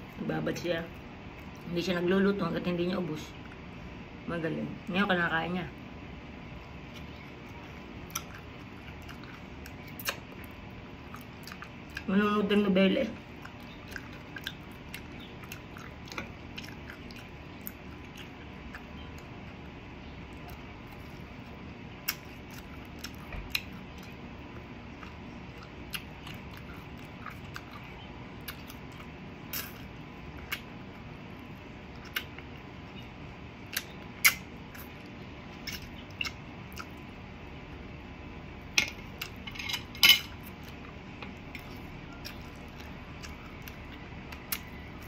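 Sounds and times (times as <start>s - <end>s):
low background hum: 0.0s - 45.0s.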